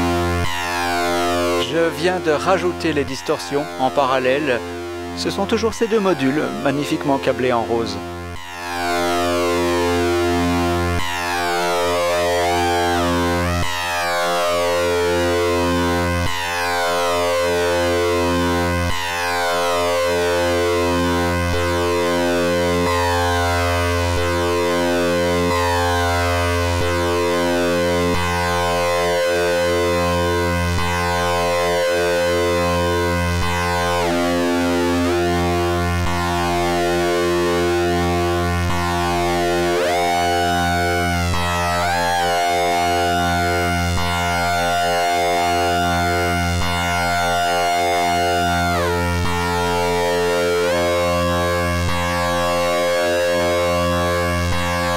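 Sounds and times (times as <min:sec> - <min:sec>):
modular synthesizer drone: 0:00.0 - 0:54.9.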